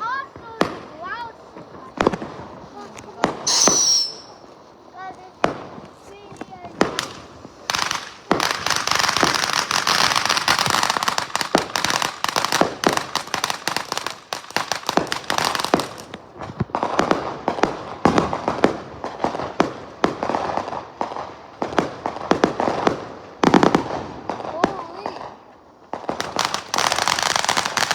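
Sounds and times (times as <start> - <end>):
fireworks crackling and banging: 0.3 - 27.9.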